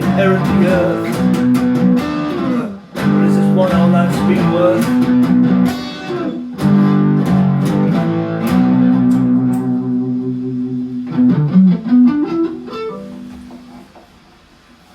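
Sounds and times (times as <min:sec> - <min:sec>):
guitar chords and notes: 0:00.0 - 0:14.0.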